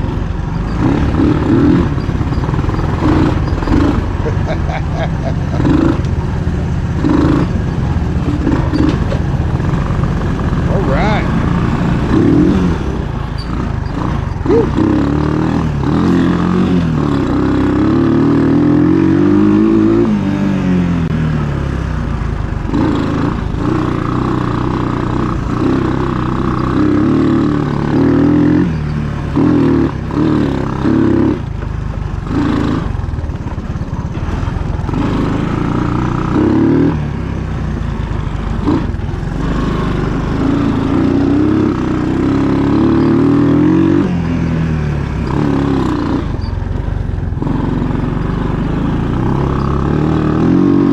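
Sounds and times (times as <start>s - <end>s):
three-wheeler engine running: 0.0s - 50.9s.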